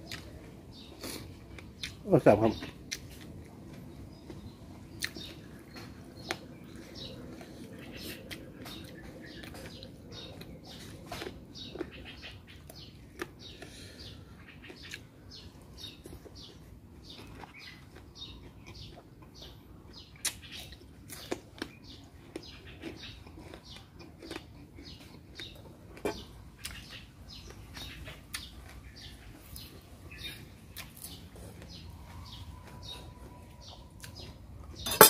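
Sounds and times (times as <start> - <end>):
chewing and lip-smacking: 0.0 - 2.0, 2.6 - 34.8.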